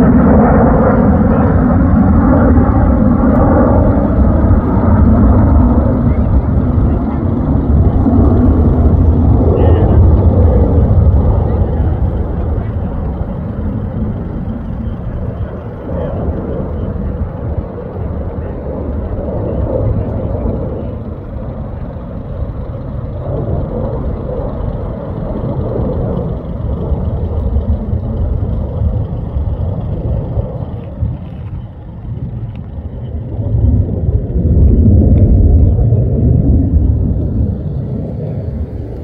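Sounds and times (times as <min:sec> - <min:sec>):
fighter jet flying past: 0:00.0 - 0:39.0.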